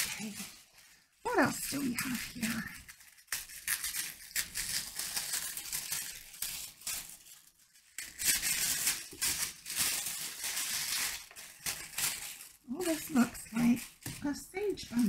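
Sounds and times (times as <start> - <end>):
wrapping paper rustling: 0.0 - 15.0.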